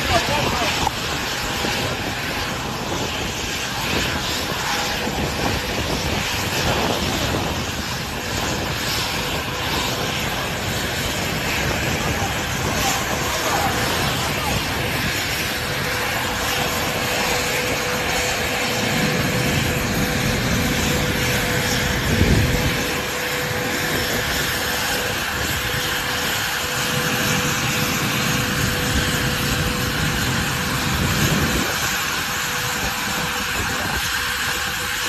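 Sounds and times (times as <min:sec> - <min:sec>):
jet engines roaring with whine: 0:00.0 - 0:35.0.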